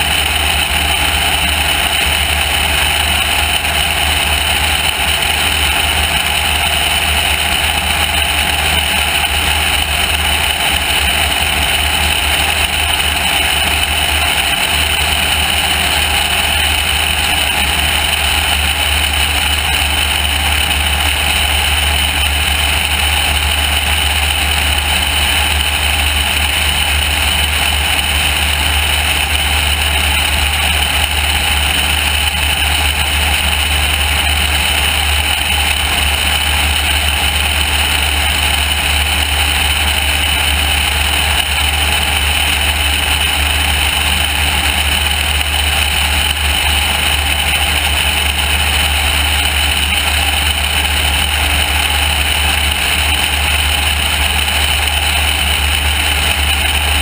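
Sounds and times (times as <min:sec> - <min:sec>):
airplane engine drone: 0:00.0 - 0:57.0.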